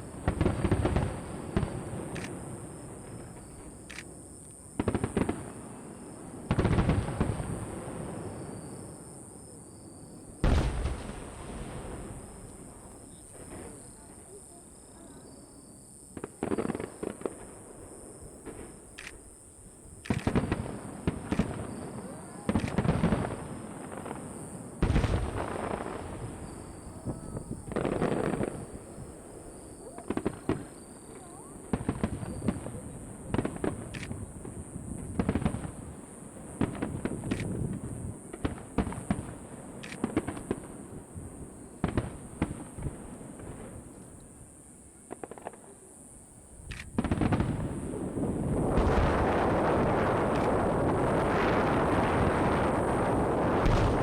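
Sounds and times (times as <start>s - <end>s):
fireworks booming and crackling: 0.0s - 9.5s, 10.2s - 54.0s.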